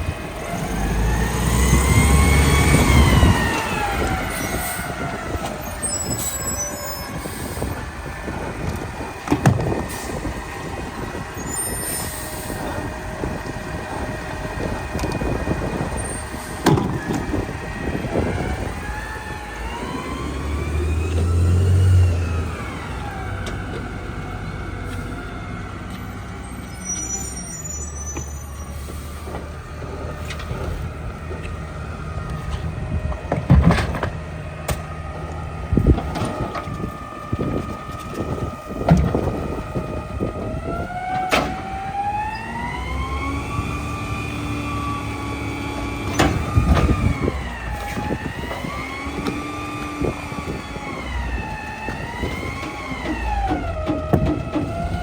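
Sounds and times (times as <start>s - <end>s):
diesel engine under load: 0.0s - 55.0s
hydraulic whine: 0.1s - 55.0s.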